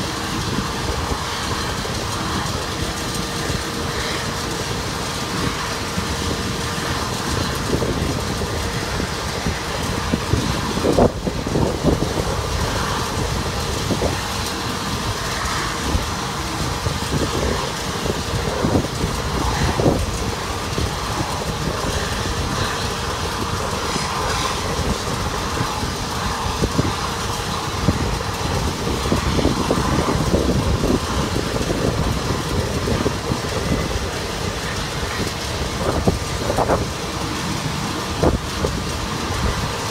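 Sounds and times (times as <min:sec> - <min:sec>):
airport ramp mechanical noise: 0:00.0 - 0:39.9.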